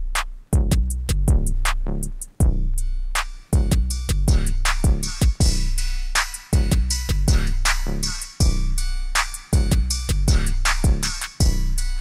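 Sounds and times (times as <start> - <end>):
deep bass line: 0.0 - 12.0
drum machine beat: 0.0 - 12.0.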